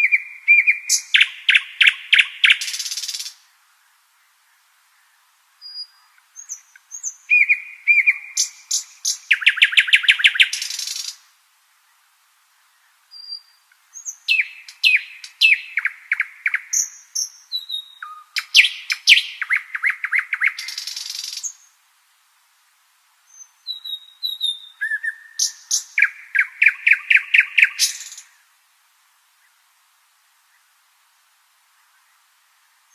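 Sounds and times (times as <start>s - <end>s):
nightingale singing: 0.0s - 21.8s, 23.2s - 28.5s.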